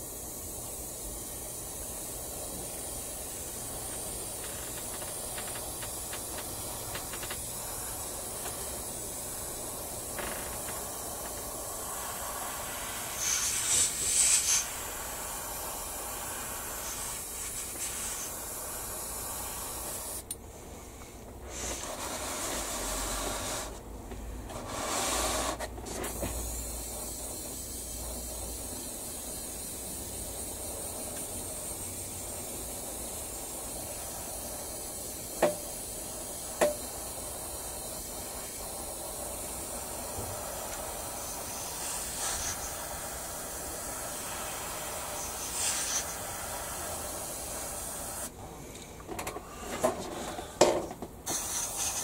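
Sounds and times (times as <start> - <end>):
sharp blast of air: 0.0 - 20.3, 24.5 - 48.4, 51.2 - 52.0
airbrush hissing: 0.0 - 48.4, 49.4 - 52.0.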